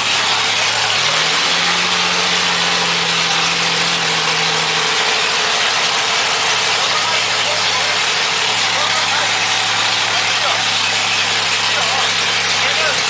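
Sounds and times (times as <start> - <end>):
straight-six engine revving: 0.0 - 13.0.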